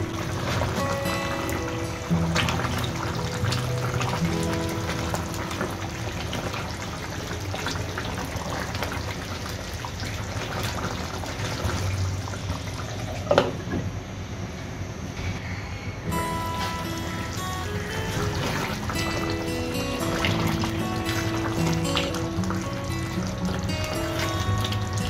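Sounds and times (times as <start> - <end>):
curry simmering and bubbling: 0.0 - 13.3, 16.6 - 25.0.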